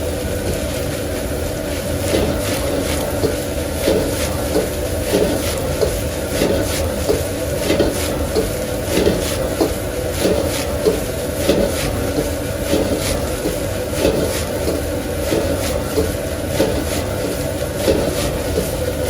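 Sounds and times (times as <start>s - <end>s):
metal spatula scraping and tapping: 2.1s - 18.8s.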